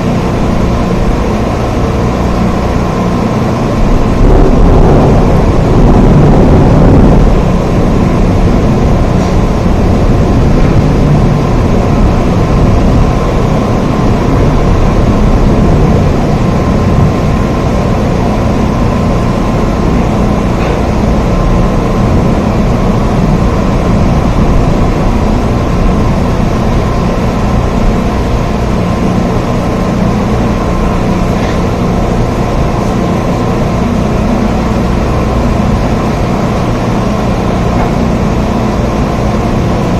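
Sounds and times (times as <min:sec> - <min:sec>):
deep low rumble: 0:03.4 - 0:36.1.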